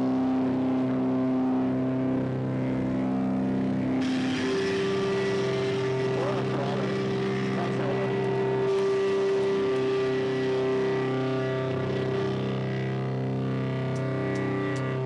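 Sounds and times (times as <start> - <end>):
distorted electric guitars droning: 0.0 - 15.0
gliding wavering guitar notes: 0.0 - 15.0.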